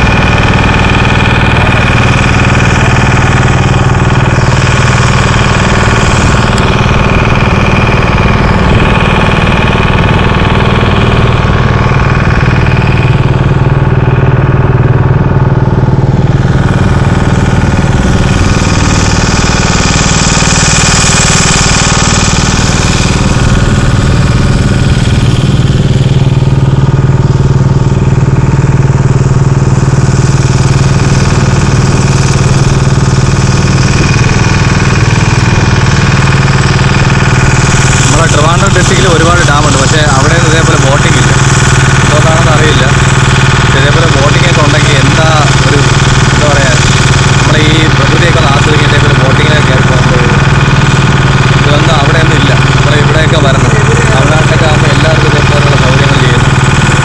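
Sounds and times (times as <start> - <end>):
motor boat engine running: 0.0 - 57.0.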